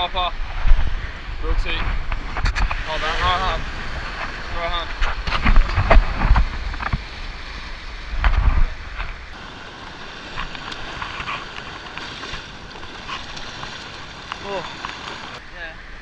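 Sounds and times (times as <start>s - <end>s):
surf breaking over rocks: 0.0s - 16.0s
wind buffeting microphone: 0.0s - 16.0s.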